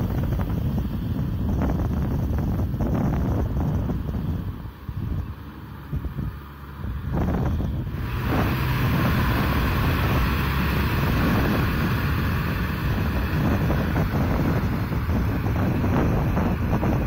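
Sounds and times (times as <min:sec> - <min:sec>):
tractor diesel engine under load: 0:00.0 - 0:17.0
wind noise on microphone: 0:00.0 - 0:17.0.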